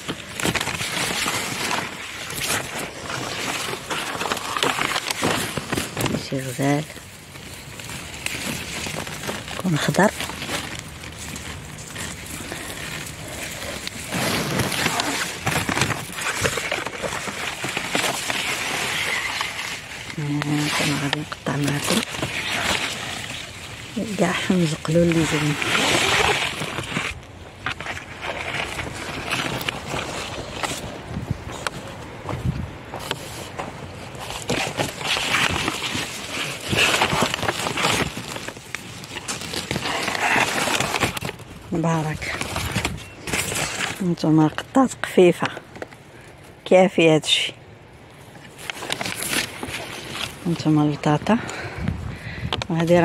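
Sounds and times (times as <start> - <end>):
plants and paper bag rustling: 0.0 - 53.0.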